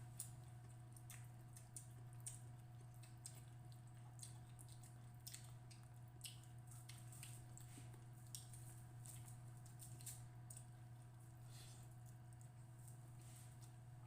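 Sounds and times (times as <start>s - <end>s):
steady low hum: 0.0s - 14.0s
wet smacking and chewing: 0.1s - 13.0s.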